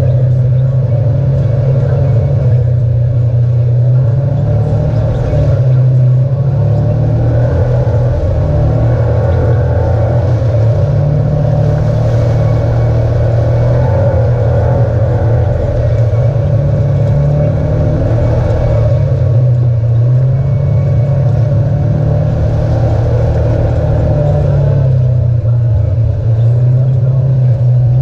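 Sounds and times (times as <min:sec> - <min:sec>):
utility vehicle engine running: 0:00.0 - 0:28.0.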